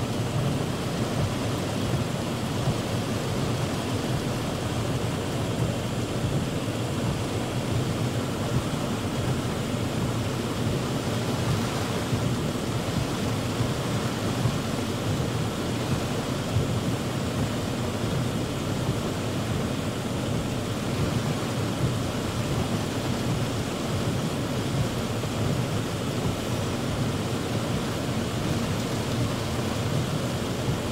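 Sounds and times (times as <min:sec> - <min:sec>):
heavy rain on a car roof: 0:00.0 - 0:30.9.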